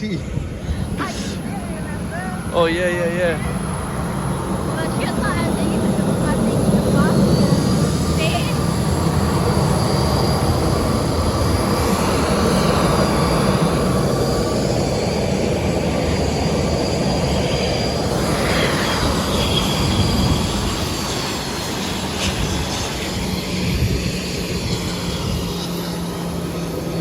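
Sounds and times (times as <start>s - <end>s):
jet turbines running: 0.0s - 27.0s.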